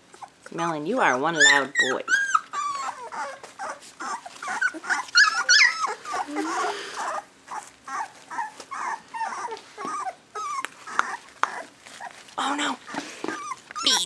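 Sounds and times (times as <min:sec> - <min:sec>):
puppies whimpering and yipping: 0:00.0 - 0:14.0.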